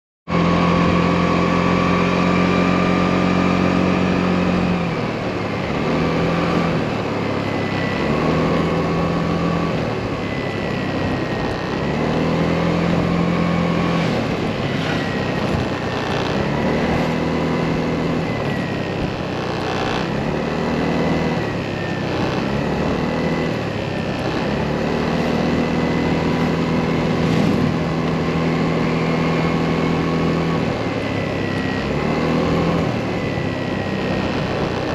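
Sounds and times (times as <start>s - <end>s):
motorcycle engine while riding: 0.3s - 34.9s
wind and road rush: 0.3s - 34.9s.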